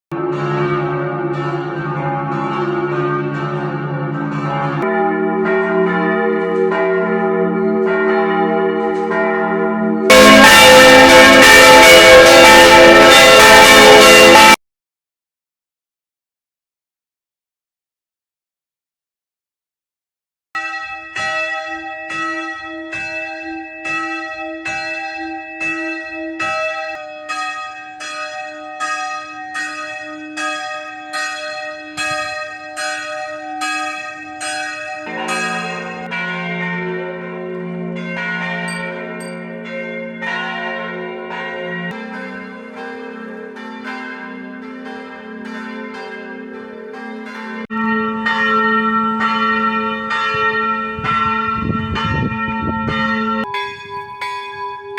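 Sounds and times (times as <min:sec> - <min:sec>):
church bell ringing: 0:00.1 - 0:14.6, 0:20.6 - 0:54.9
deeper church bells pealing: 0:00.1 - 0:14.6, 0:20.6 - 0:54.9.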